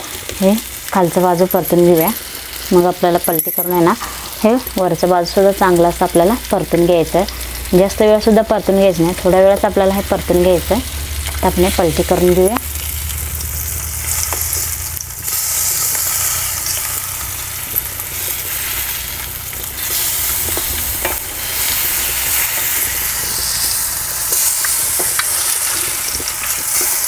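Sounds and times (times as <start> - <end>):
eggs sizzling in hot oil: 0.0 - 27.0.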